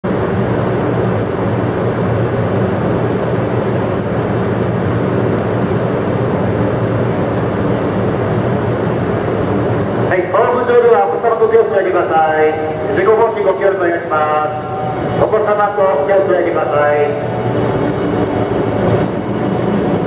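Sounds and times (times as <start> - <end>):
even rushing noise: 0.0 - 20.0
train equipment humming: 0.0 - 20.0.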